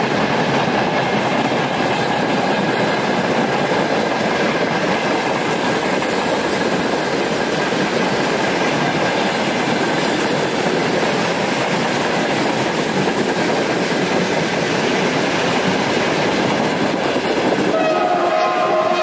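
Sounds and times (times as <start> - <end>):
clickety-clack over rail joints: 0.0 - 19.0
freight wagons rumbling on rails: 0.0 - 19.0.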